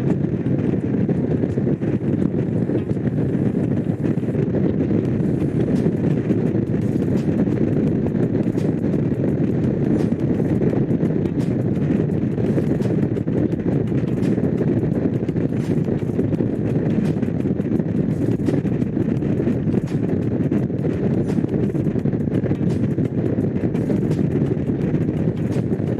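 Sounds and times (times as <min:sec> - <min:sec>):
motorcycle engine running: 0:00.0 - 0:25.9
wind rushing over microphone: 0:00.0 - 0:25.9.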